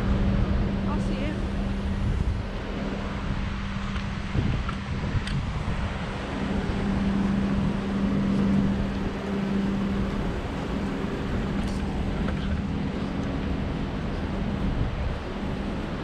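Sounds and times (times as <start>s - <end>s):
low engine hum: 0.0s - 16.0s
wind noise on microphone: 0.0s - 16.0s.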